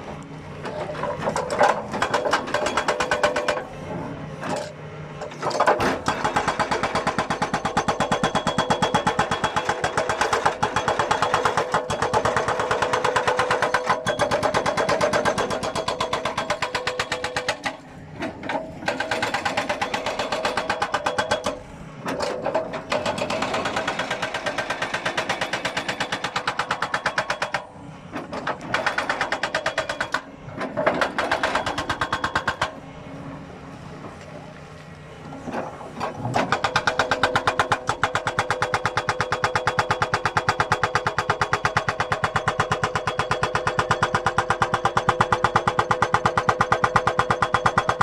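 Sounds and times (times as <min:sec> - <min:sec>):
hydraulic breaker hammering: 0:00.6 - 0:03.7, 0:04.4 - 0:32.8, 0:35.5 - 0:48.0.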